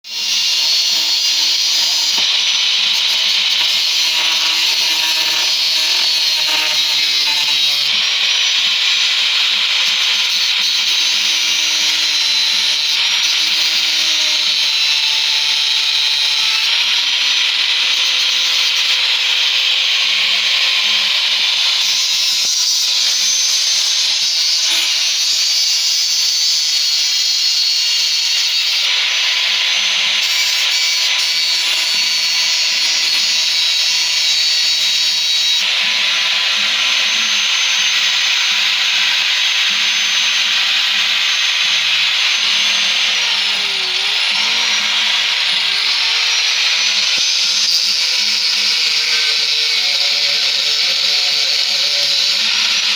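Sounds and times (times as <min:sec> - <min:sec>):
power tool running: 0:00.1 - 0:52.9.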